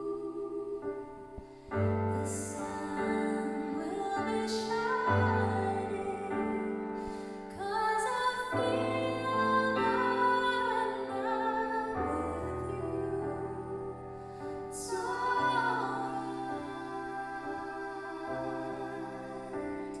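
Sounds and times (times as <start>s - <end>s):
keyboard piano accompaniment: 0.0s - 20.0s
woman singing a slow ballad: 0.0s - 20.0s.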